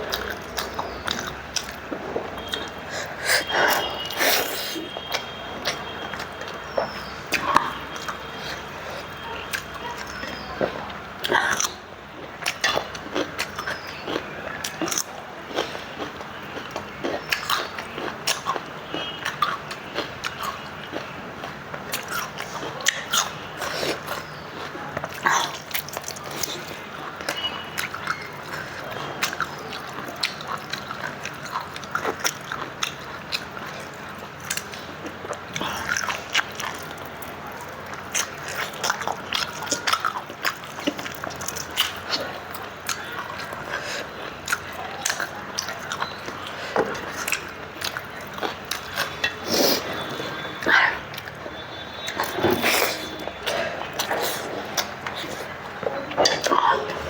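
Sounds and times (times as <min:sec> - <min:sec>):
person chewing with lip smacks: 0:00.1 - 0:57.0.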